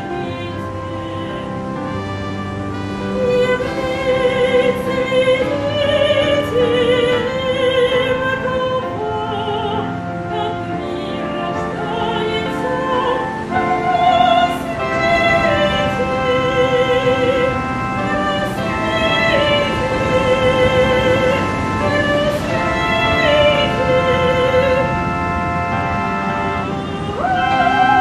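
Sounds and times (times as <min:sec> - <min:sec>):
operatic singing: 0:00.0 - 0:28.0
sustained instrumental accompaniment: 0:00.0 - 0:28.0.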